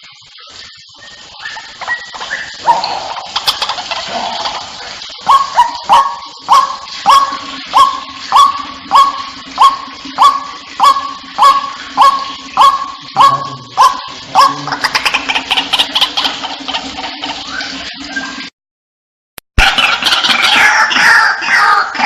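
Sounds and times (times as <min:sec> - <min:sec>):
waterhen calling: 0:00.0 - 0:18.5, 0:19.6 - 0:22.0.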